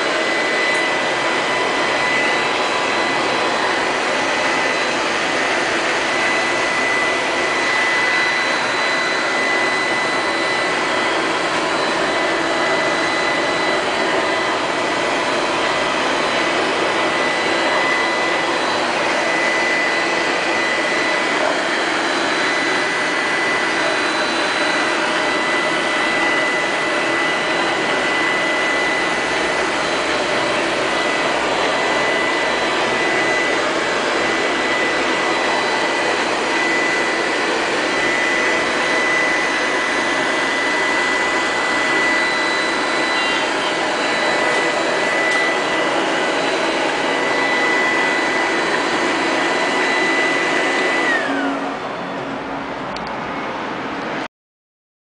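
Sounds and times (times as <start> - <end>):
robot vacuum cleaner whirring: 0.0 - 54.3.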